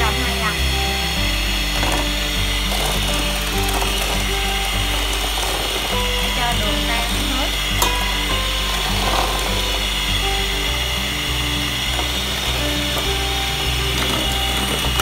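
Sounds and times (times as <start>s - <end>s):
electric hand mixer whipping: 0.0s - 15.0s.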